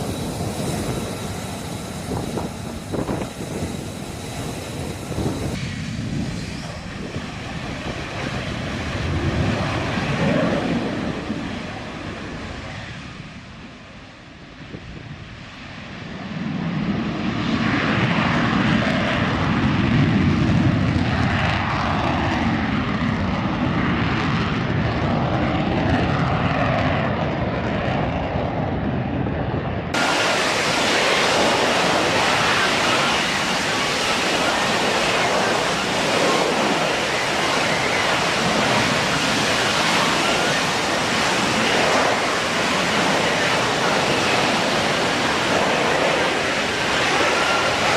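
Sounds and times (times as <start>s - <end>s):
jet engine roaring: 0.0s - 47.9s.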